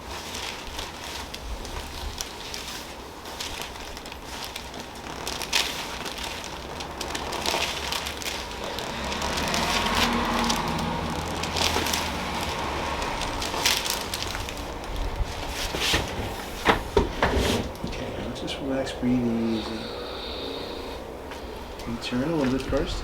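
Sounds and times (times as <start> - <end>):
clothing rustling on table: 0.0 - 18.6.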